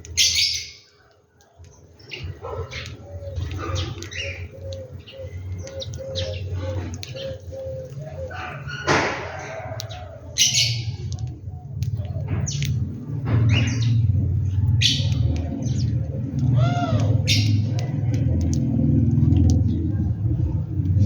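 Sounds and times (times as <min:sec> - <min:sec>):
birds chirping and squawking: 0:00.0 - 0:21.0
arching bird calls: 0:00.1 - 0:21.0.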